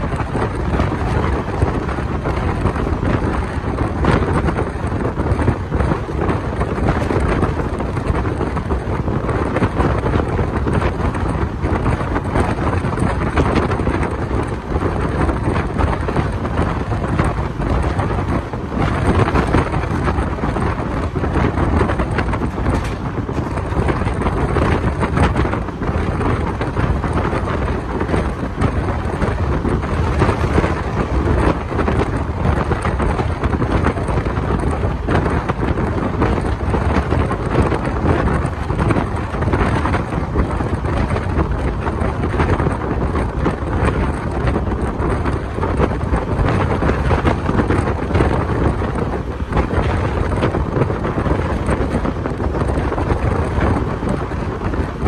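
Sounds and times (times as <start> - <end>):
train rumbling on rails: 0.0 - 55.0
wind buffeting microphone: 0.0 - 55.0.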